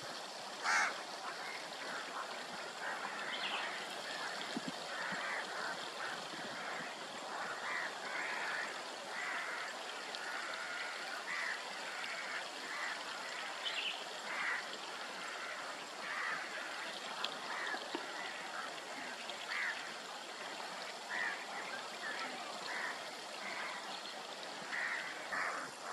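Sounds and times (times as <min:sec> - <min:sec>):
steady hiss: 0:00.0 - 0:25.9.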